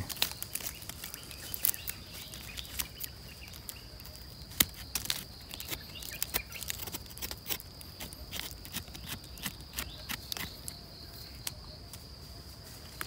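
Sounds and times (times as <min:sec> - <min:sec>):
forest floor debris crackling: 0:00.0 - 0:13.0.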